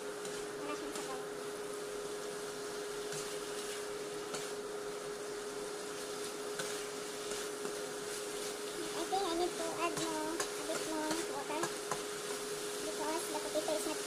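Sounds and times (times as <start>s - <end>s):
electric hob humming: 0.0s - 14.0s
spatula scraping in a wok: 0.0s - 14.0s.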